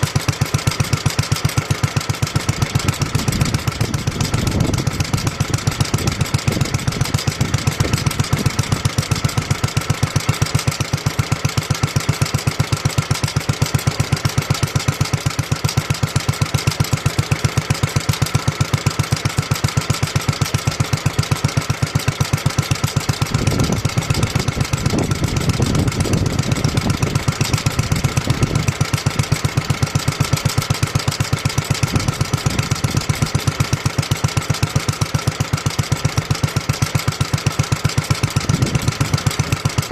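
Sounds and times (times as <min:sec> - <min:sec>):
stationary engine idling: 0:00.0 - 0:39.9.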